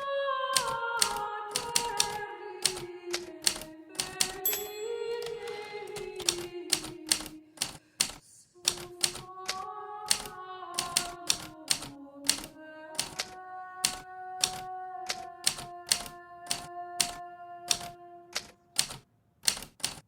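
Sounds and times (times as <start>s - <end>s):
typewriter keys striking: 0.0s - 4.6s, 5.9s - 20.0s.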